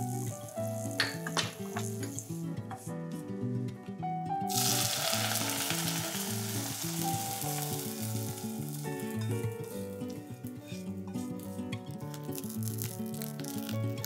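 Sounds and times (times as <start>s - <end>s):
hot oil sizzling: 0.0s - 2.9s, 4.5s - 14.0s.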